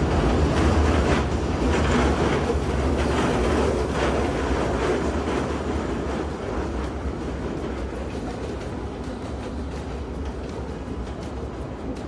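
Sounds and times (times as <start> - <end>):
faint rail clacks: 0.0 - 12.0
train wheels rumbling on rail: 0.0 - 12.0.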